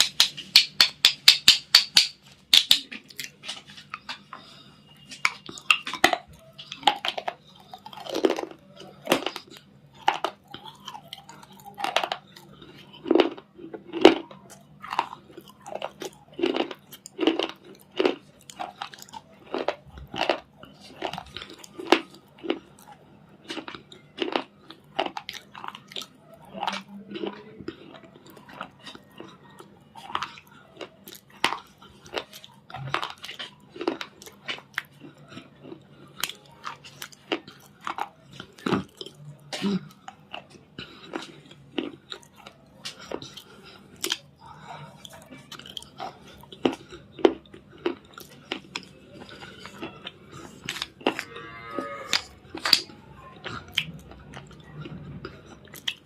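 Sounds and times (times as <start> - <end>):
crunchy food being chewed: 2.0 - 56.0.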